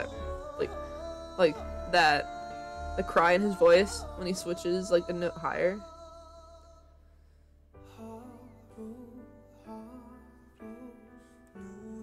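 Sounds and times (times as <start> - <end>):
person singing: 0.0 - 7.0, 7.8 - 12.0
soft pop ballad with piano: 0.0 - 12.0.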